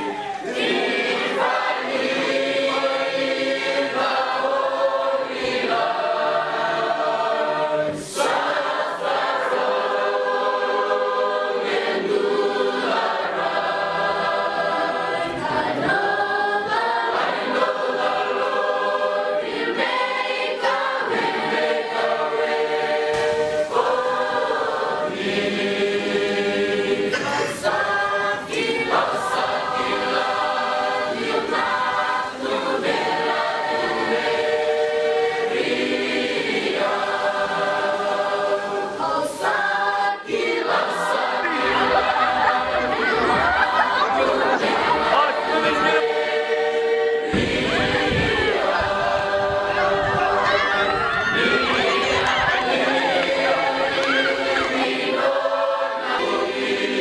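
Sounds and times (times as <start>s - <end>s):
choir singing in harmony: 0.0s - 57.0s.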